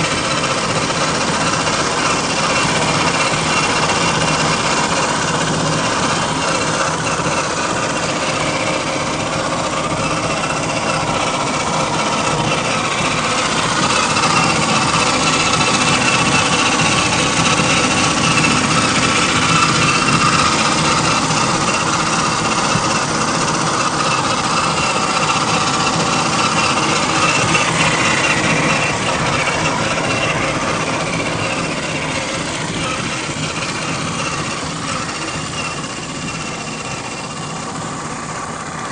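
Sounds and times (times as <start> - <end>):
toy car motor whining: 0.0 - 38.9.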